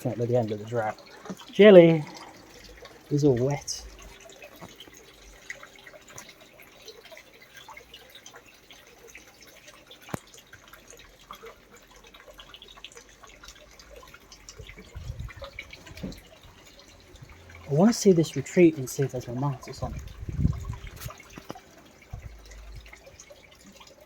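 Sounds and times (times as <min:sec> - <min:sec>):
rainwater dripping: 0:00.0 - 0:24.0.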